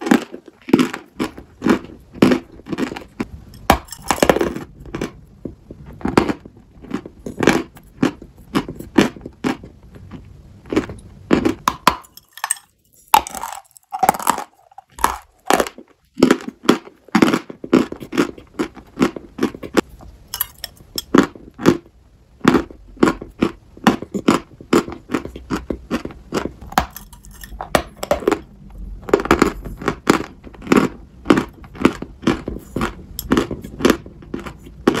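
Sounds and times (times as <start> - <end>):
chewing dry chalk crunches: 0.0 - 5.2, 5.8 - 35.0.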